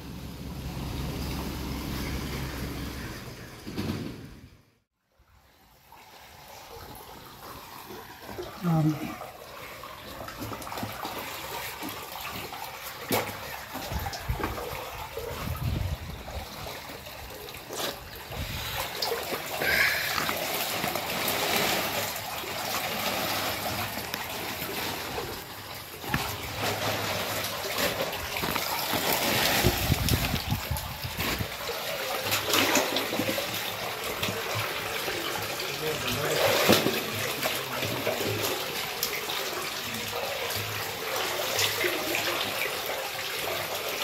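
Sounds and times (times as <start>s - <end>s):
water trickling and splashing: 5.1s - 44.0s.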